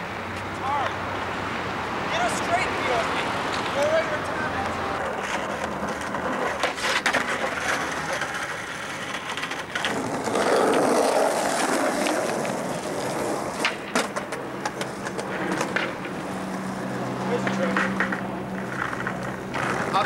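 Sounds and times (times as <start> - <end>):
skateboard wheels rolling on asphalt: 0.0 - 20.0
skateboard clacks: 3.2 - 20.0.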